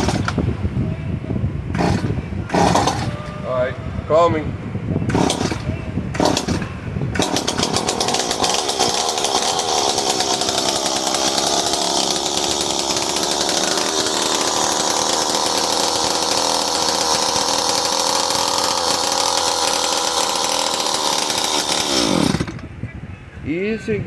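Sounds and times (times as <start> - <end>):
chainsaw engine running: 0.0 - 0.5, 1.7 - 3.4, 5.1 - 22.7.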